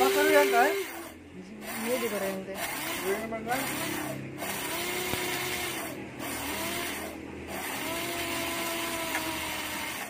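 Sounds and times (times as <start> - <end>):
coffee grinder grinding beans: 0.0 - 10.0.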